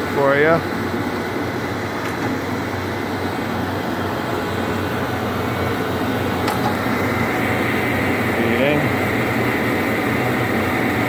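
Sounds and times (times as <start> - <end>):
surface grinder machine hum: 0.0 - 11.0.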